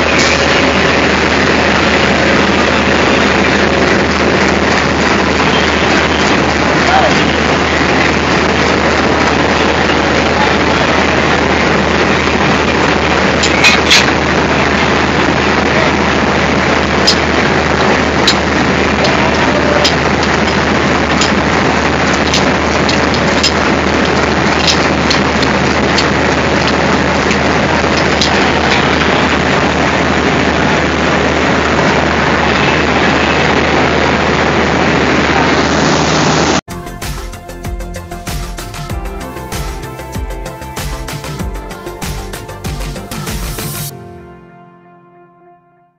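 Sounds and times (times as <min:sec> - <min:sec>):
diesel locomotive engine rumbling: 0:00.0 - 0:44.0.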